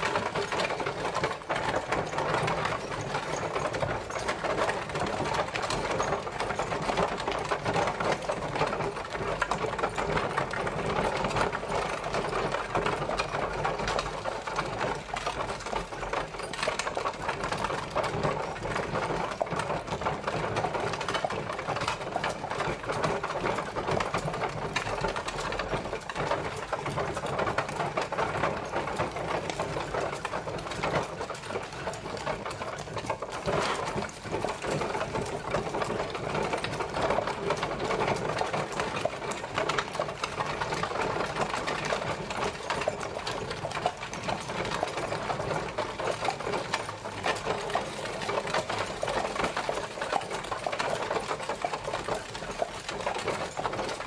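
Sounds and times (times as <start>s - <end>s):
horse-drawn carriage rattling: 0.0s - 54.0s.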